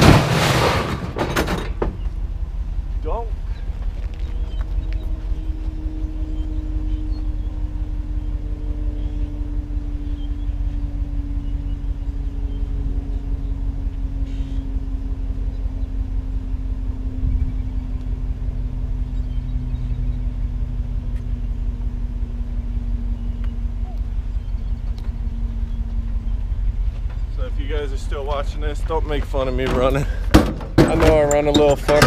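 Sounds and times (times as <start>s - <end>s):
road noise: 0.0s - 32.0s
truck engine rumble: 0.0s - 32.0s.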